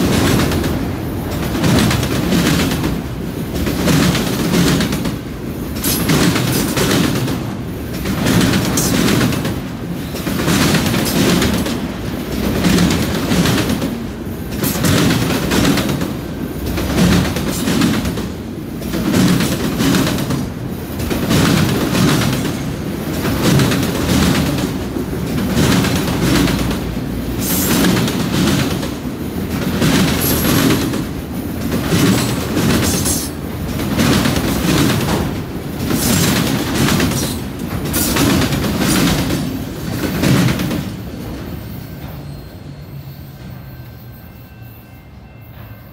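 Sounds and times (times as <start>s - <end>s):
wheels clickety-clack on rails: 0.0s - 42.5s
freight train wheels rumbling: 0.0s - 45.9s.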